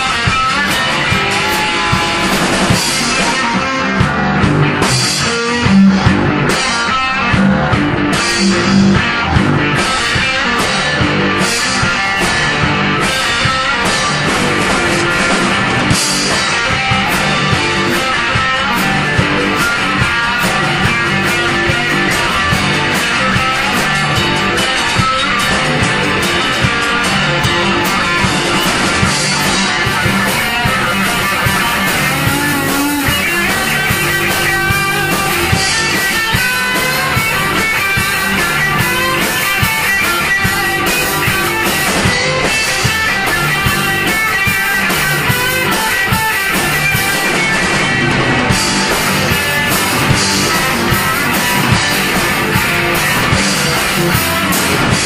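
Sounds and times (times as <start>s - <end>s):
drum hits: 0.0s - 55.0s
rock music: 0.0s - 55.0s.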